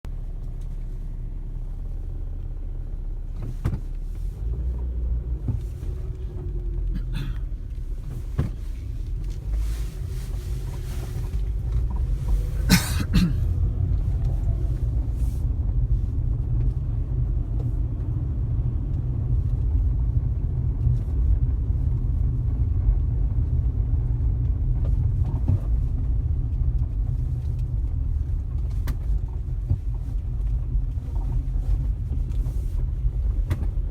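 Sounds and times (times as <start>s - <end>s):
car road noise rumble: 0.0s - 33.9s.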